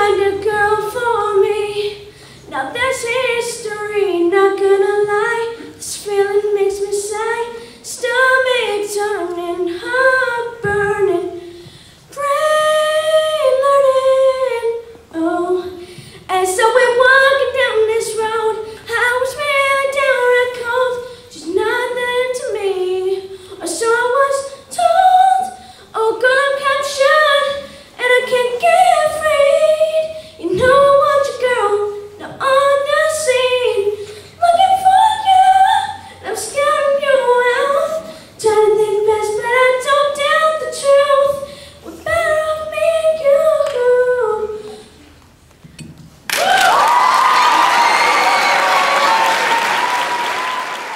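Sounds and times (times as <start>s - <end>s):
boy singing: 0.0s - 11.4s, 12.1s - 44.9s.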